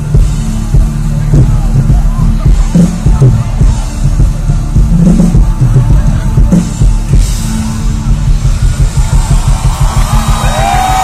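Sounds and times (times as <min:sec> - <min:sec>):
live rock music: 0:00.0 - 0:11.0.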